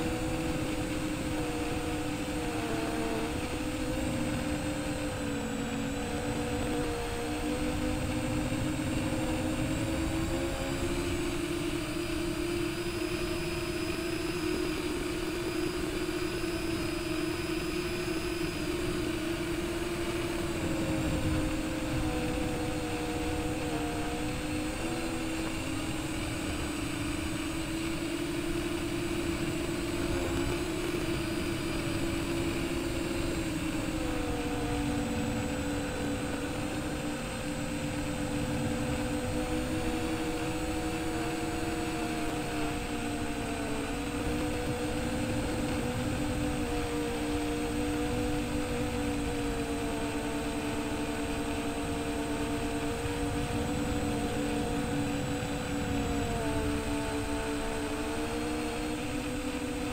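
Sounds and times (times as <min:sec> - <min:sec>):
quadcopter propellers humming: 0:00.0 - 0:59.9.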